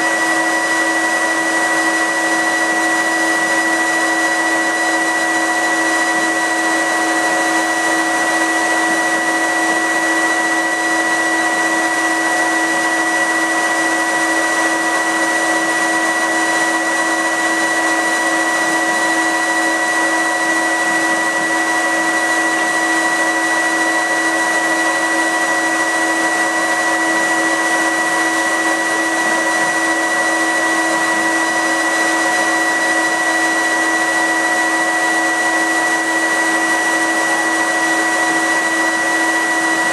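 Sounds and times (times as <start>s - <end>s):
extraction fan whining: 0.0s - 39.9s.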